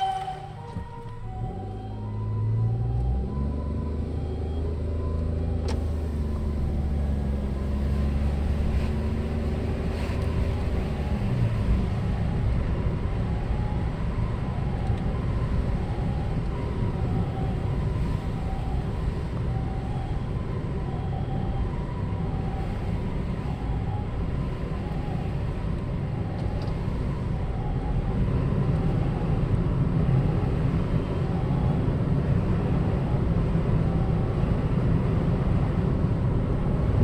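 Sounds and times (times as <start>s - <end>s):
faint two-tone ambulance siren: 0.0s - 37.0s
road rumble: 0.0s - 37.0s
vehicle engine rumbling: 0.0s - 37.0s.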